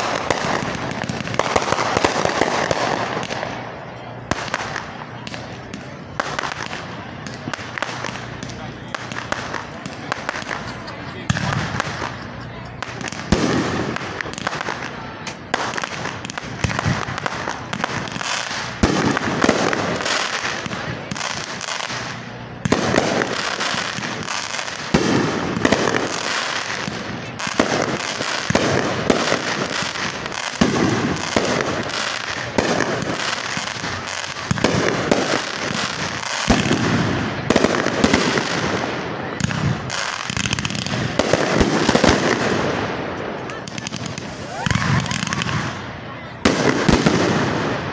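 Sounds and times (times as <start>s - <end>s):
fireworks bursting: 0.0s - 47.9s
fireworks crackling: 0.0s - 47.9s.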